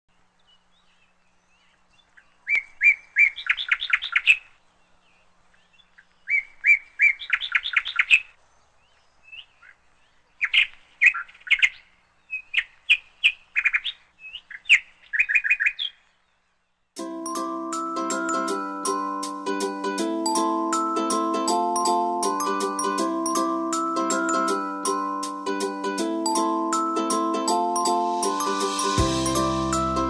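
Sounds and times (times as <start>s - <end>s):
songbird singing: 0.1s - 30.0s.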